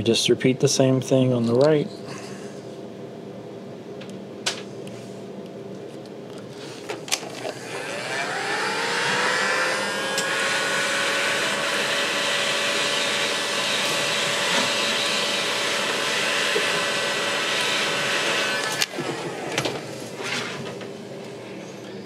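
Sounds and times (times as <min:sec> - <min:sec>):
heat gun fan whine: 0:00.0 - 0:22.0.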